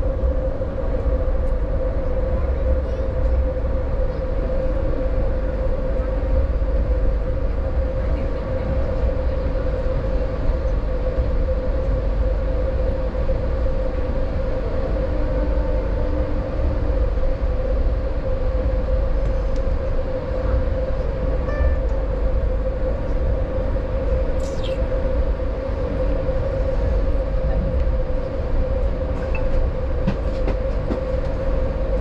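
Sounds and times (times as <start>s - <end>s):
steady humming tone: 0.0s - 32.0s
train wheels rumbling on track: 0.0s - 32.0s.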